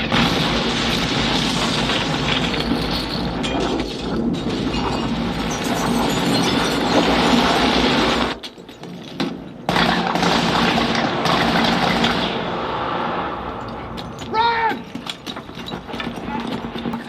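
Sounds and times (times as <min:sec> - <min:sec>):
film soundtrack gunfire and crashing: 0:00.0 - 0:17.0.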